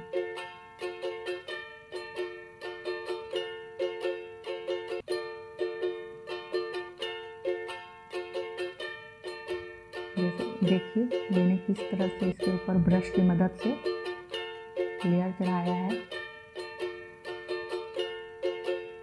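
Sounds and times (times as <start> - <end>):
plucked string tune: 0.0 - 19.0.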